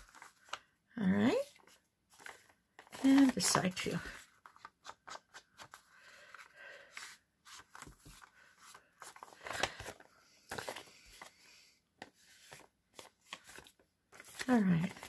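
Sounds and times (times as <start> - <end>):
paper handling: 0.0 - 0.6, 1.6 - 11.4, 12.0 - 15.0.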